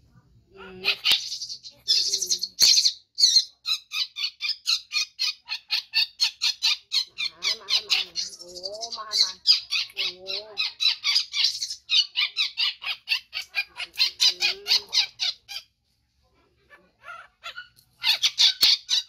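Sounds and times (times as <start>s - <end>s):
baby monkey screaming: 0.6s - 15.7s, 16.7s - 19.0s.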